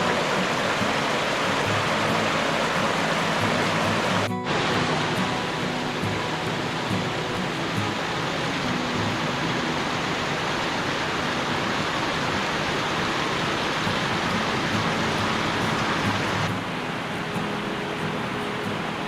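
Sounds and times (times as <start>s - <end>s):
rushing falling water: 0.0s - 19.0s.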